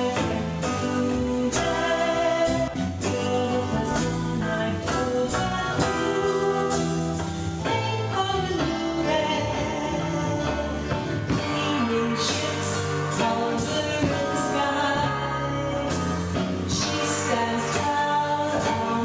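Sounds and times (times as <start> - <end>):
live band accompaniment: 0.0 - 19.0
woman singing: 0.0 - 19.0.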